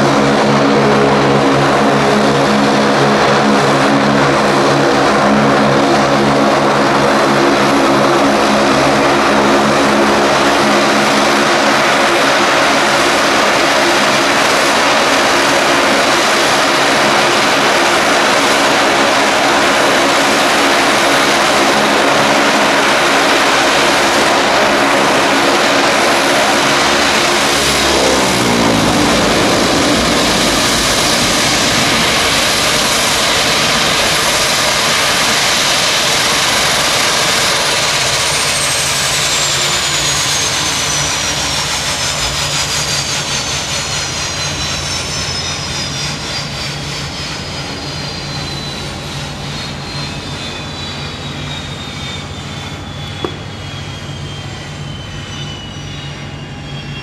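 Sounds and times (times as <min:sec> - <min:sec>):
propeller drone dropping in pitch: 0:00.0 - 0:57.0
turbine whine winding down: 0:00.0 - 0:57.0.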